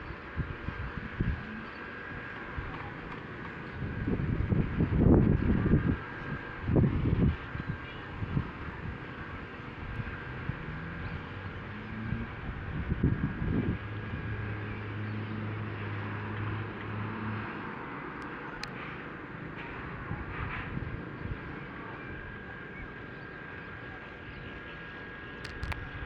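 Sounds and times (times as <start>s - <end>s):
steady outdoor hiss: 0.0s - 26.0s
wind gusting against microphone: 0.0s - 26.0s.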